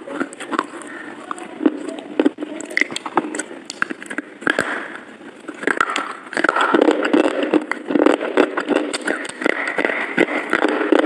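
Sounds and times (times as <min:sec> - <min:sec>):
person chewing cake: 0:00.0 - 0:11.0.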